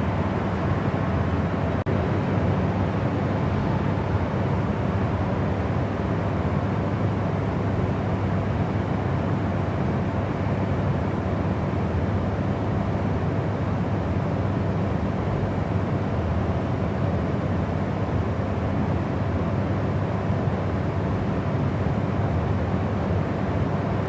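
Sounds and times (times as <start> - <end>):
low rumbling white noise: 0.0 - 24.0.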